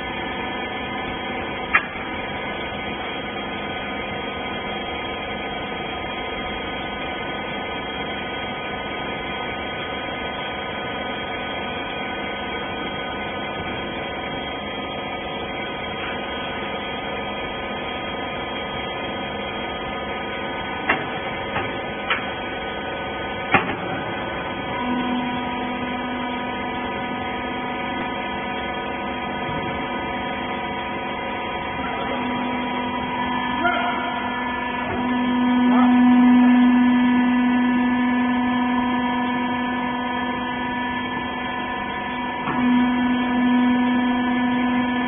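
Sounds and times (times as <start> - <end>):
electric motor and pump humming: 0.0 - 45.0.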